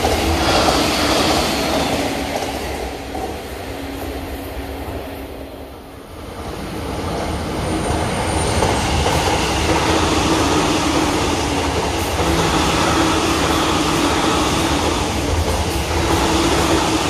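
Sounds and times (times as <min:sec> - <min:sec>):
electric train passing at speed: 0:00.0 - 0:17.0
wheels running on rail: 0:00.0 - 0:17.0.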